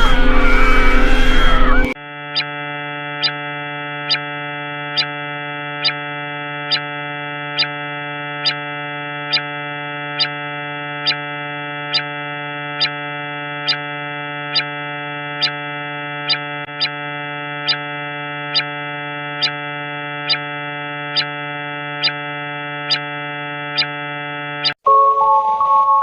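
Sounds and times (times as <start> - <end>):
synthesized alarm drone: 0.0 - 25.6.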